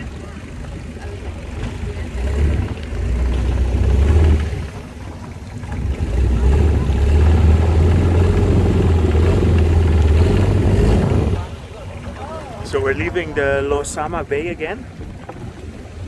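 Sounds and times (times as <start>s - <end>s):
boat engine deep rumble: 0.0s - 16.0s.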